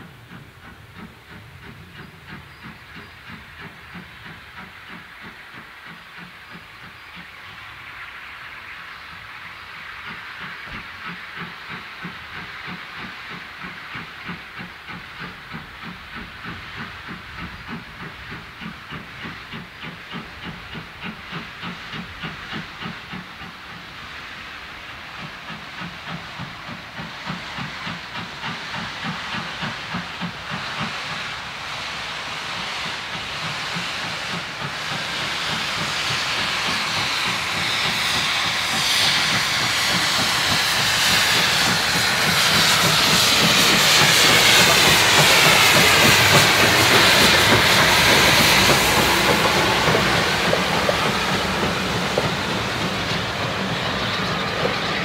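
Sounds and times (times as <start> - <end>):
loud steam hiss: 0.0 - 55.0
steam locomotive exhaust beating: 0.0 - 55.0.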